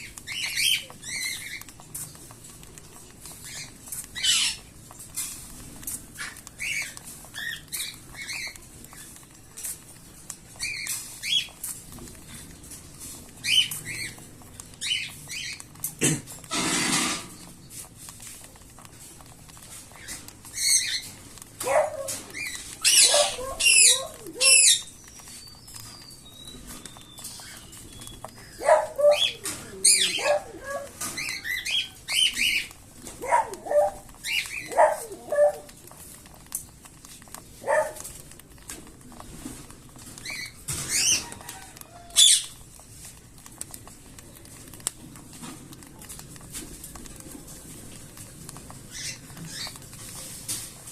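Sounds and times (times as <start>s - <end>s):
cockatiel chicks chirping: 0.0s - 50.9s.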